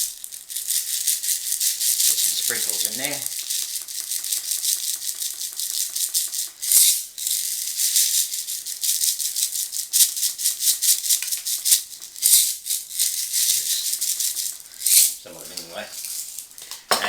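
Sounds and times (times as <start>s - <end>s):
sprinkles rattling in shaker: 0.0s - 16.9s.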